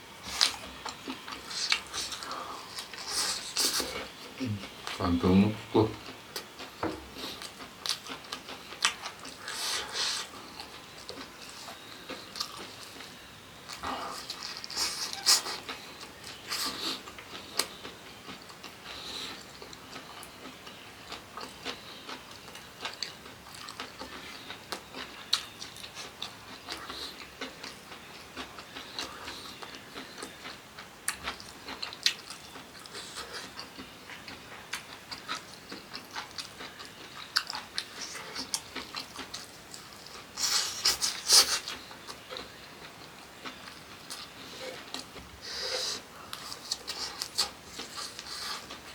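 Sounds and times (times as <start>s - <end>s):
person chewing food: 0.2s - 5.0s, 6.0s - 48.9s.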